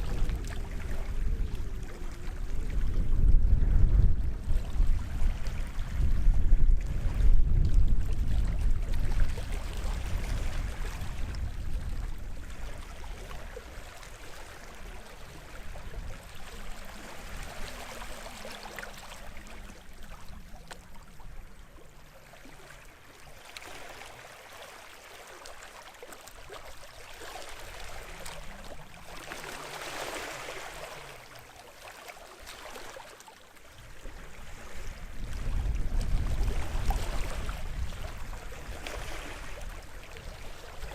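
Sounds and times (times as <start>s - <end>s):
wind rumble on microphone: 0.0s - 24.2s, 26.4s - 31.4s, 33.6s - 40.9s
small waves lapping on shore: 0.0s - 40.9s.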